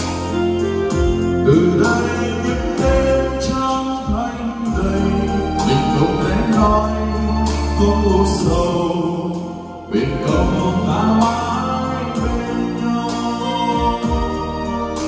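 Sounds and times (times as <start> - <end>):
man singing karaoke: 0.0 - 14.8
music backing track: 0.0 - 15.0.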